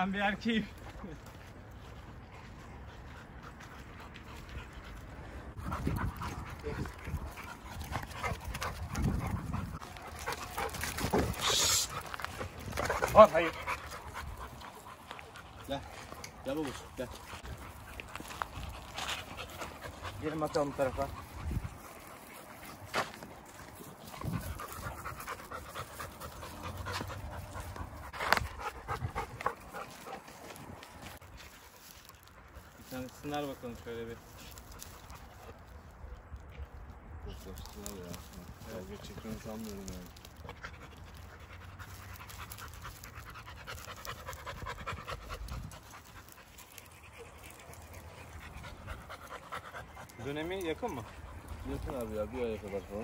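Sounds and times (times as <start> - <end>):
dogs panting: 0.0 - 53.0.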